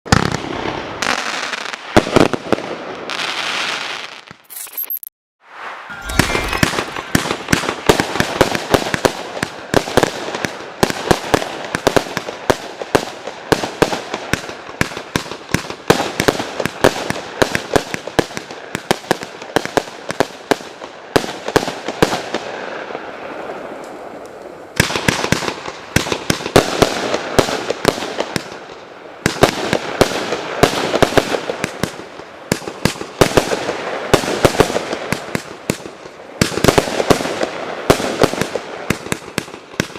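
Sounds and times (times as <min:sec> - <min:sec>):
fireworks firing rapid volleys: 0:05.5 - 0:22.8, 0:24.8 - 0:39.9.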